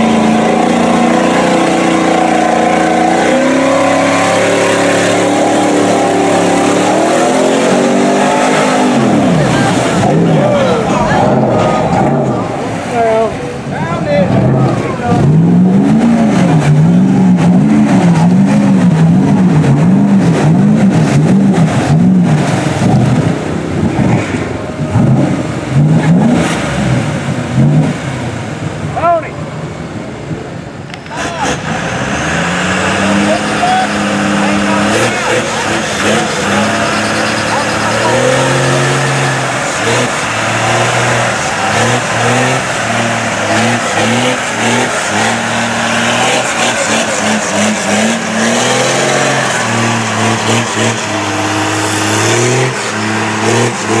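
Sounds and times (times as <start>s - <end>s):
engine revving: 0.0s - 28.5s, 30.9s - 54.0s
tyres churning through mud: 0.0s - 54.0s.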